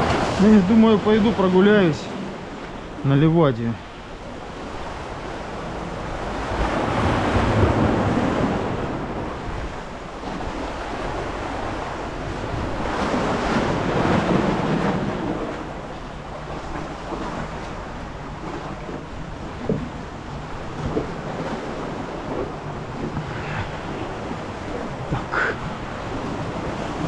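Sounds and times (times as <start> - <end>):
waves washing onto rocky shore: 0.0 - 27.0.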